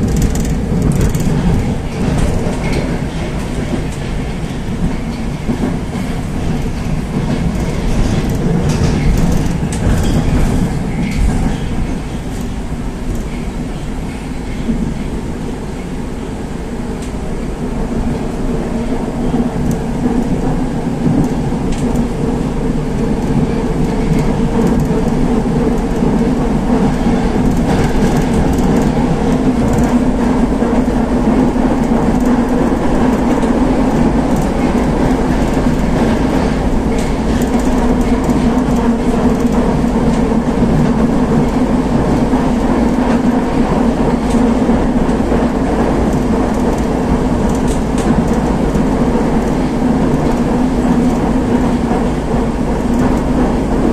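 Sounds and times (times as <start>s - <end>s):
train wheels rumbling: 0.0s - 53.9s.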